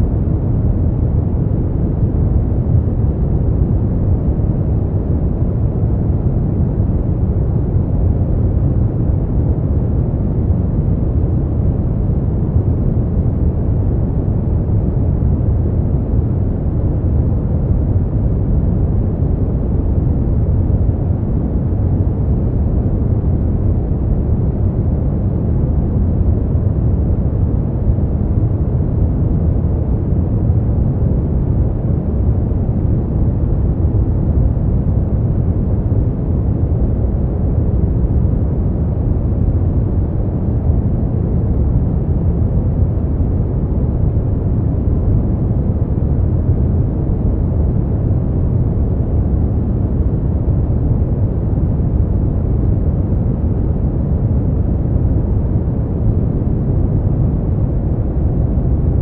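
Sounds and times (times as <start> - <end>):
deep low rumble noise: 0.0 - 59.0.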